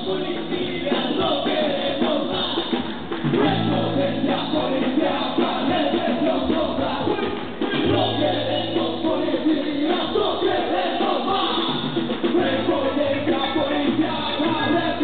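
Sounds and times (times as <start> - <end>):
live band with singing: 0.0 - 15.0.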